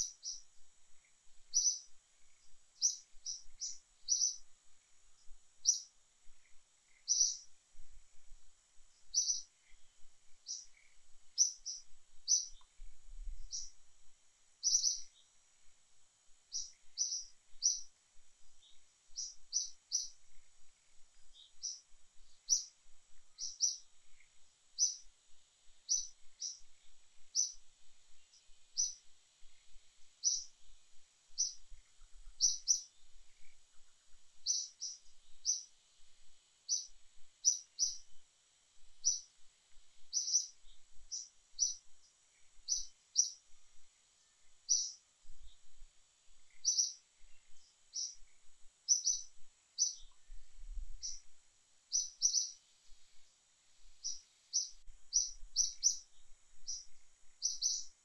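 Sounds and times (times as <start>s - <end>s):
bird chirping: 0.0s - 7.6s, 8.9s - 13.8s, 14.6s - 15.4s, 16.5s - 25.1s, 25.7s - 35.8s, 36.6s - 38.2s, 39.0s - 39.3s, 39.9s - 43.6s, 44.2s - 45.8s, 46.5s - 58.0s
faint high hiss: 0.0s - 58.0s.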